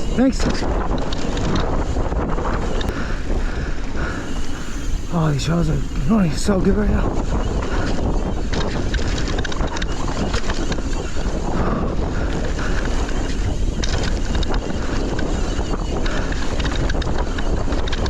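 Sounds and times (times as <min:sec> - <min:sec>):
bike clicks and rattles: 0:00.0 - 0:18.0
bike tyres rolling on dirt: 0:00.0 - 0:18.0
wind buffeting microphone: 0:00.0 - 0:18.0.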